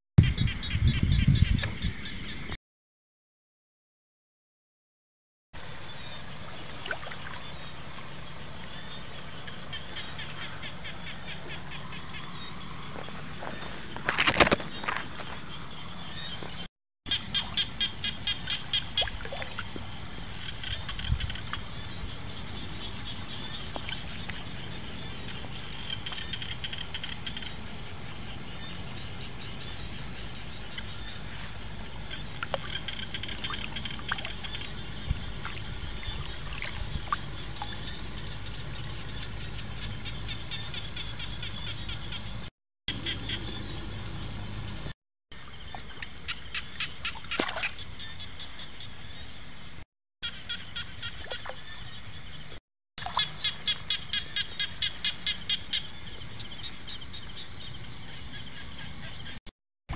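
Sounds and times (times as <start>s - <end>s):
frogs trilling: 5.8s - 49.4s, 50.2s - 59.4s.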